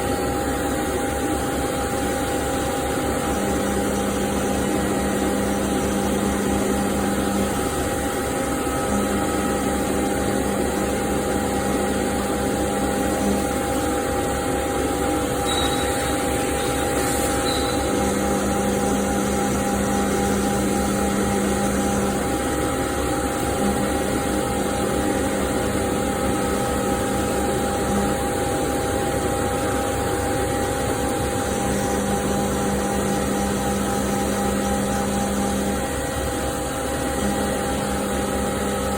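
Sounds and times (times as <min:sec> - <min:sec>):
cnc machine hum: 0:00.0 - 0:38.9
low machine tone: 0:00.0 - 0:38.9.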